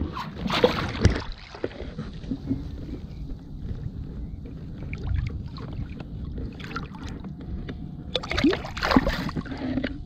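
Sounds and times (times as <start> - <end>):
water sloshing and splashing: 0.0 - 3.8, 4.8 - 10.0
wind rumble on microphone: 0.0 - 10.0.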